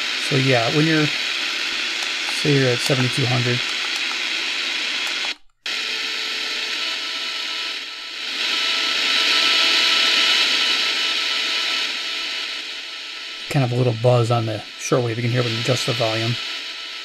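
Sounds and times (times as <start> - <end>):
radio static hissing: 0.0 - 5.4, 6.7 - 17.0.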